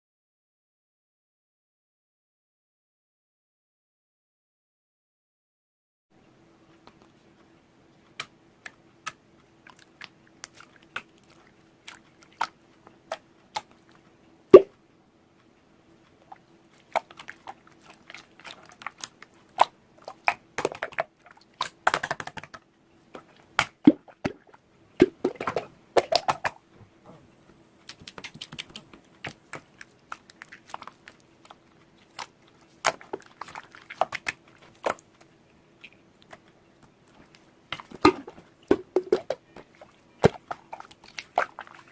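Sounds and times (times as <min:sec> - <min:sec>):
faint steady hum: 0:06.2 - 0:41.9.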